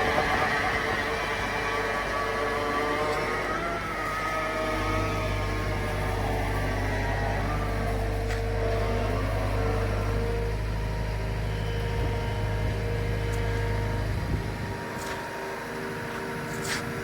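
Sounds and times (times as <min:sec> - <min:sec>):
diesel engine running: 0:00.0 - 0:17.0
engine whine: 0:00.0 - 0:17.0.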